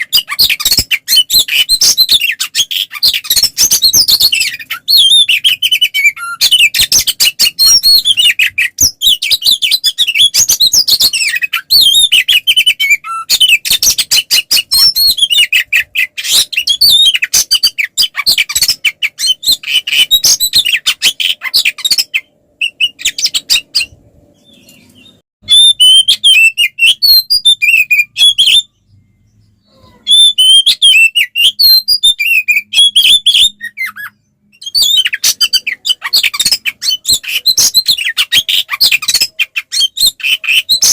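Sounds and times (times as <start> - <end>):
songbird singing whistles and chatter: 0.0 - 40.9.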